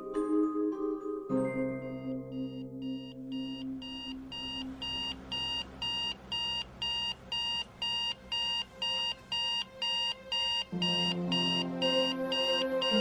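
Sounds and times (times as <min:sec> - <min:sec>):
alarm clock beeping: 0:02.0 - 0:13.0.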